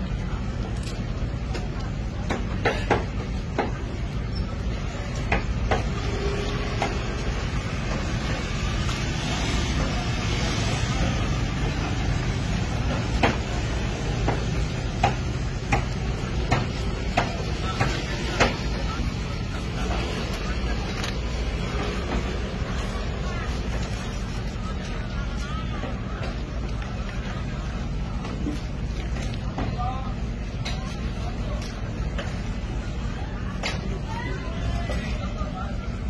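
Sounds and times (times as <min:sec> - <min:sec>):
low rumble of street traffic: 0:00.0 - 0:36.0.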